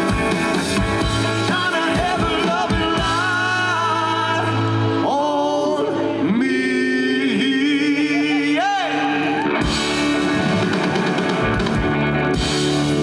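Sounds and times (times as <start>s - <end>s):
band music: 0.0s - 13.0s.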